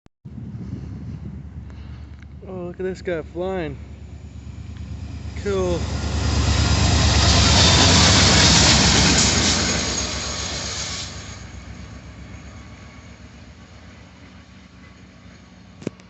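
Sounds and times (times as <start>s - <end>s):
freight train passing: 0.3s - 16.0s.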